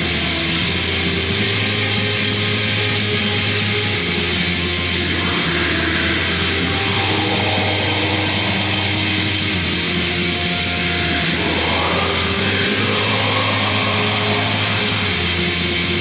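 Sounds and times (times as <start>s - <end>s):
distorted electric guitars: 0.0s - 16.0s.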